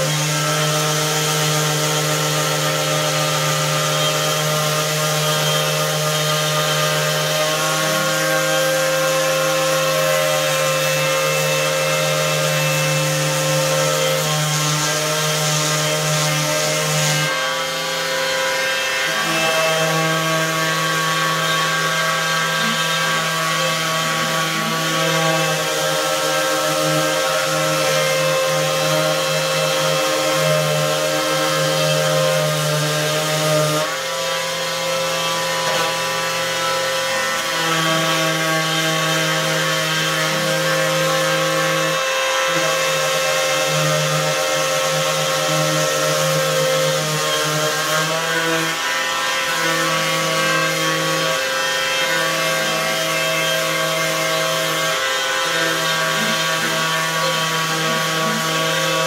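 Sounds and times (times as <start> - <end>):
orbital sander sanding wood: 0.0 - 59.0.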